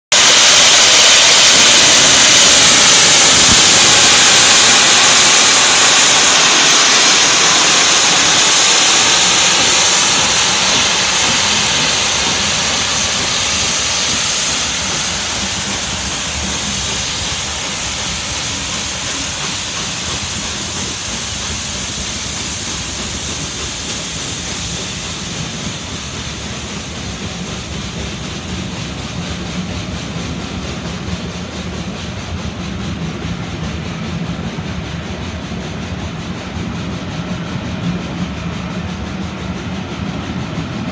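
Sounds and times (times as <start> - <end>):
loud steam hissing: 0.0 - 40.9
steam locomotive passing: 0.1 - 40.9.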